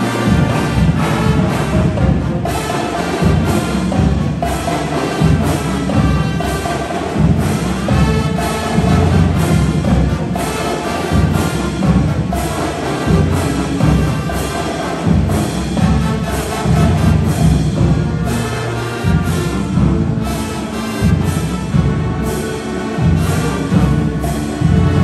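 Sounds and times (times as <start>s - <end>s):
marching band playing: 0.0s - 25.0s.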